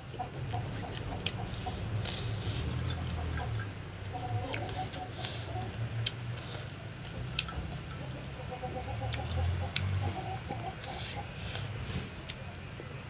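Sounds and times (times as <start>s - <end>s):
wet chewing: 0.4s - 12.8s.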